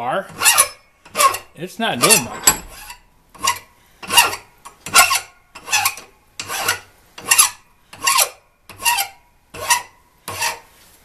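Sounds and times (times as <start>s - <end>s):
hand file rasping on steel: 0.2s - 10.7s.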